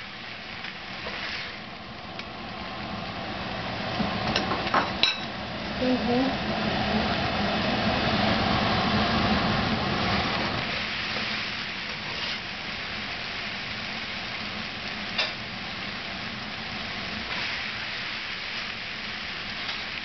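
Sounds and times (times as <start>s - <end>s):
ginger sizzling in hot oil: 0.0s - 20.0s.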